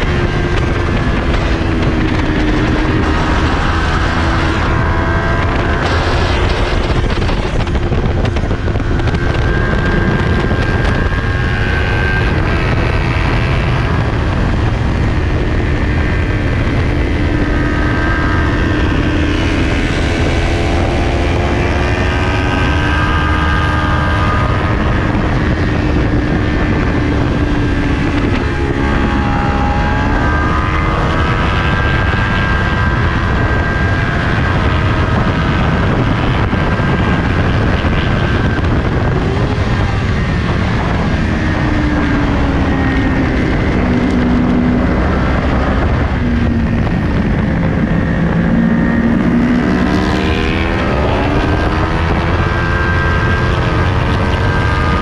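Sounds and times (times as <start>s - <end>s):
motorcycle engine racing: 0.0s - 55.0s
wind buffeting microphone: 0.0s - 55.0s.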